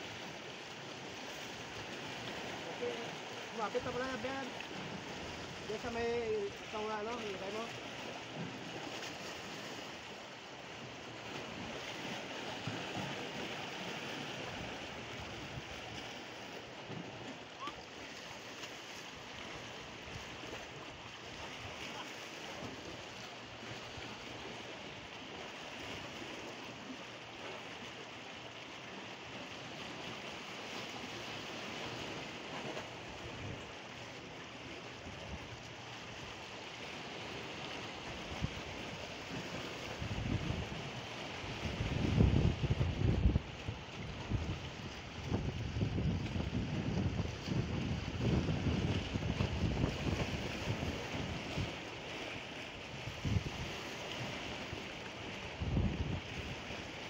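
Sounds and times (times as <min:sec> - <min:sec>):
sea waves breaking on rocks: 0:00.0 - 0:57.0.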